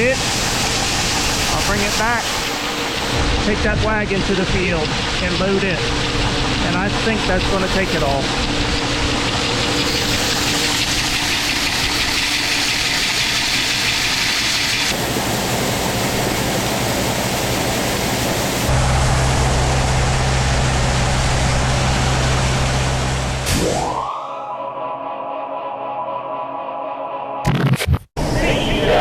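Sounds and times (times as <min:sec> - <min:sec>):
farm vehicle engine running: 0:00.0 - 0:23.4.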